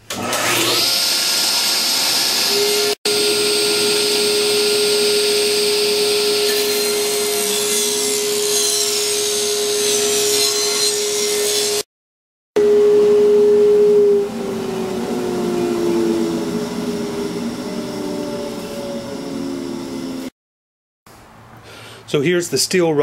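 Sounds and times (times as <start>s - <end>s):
table saw motor whine: 0.0s - 11.9s, 12.6s - 20.3s.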